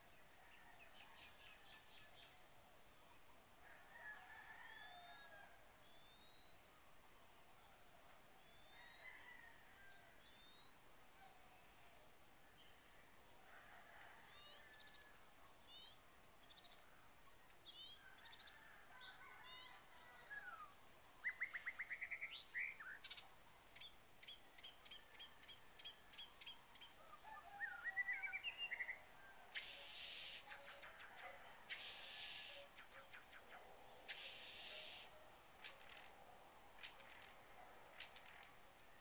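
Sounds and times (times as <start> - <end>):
faint birds singing and chirping: 0.0 - 39.0.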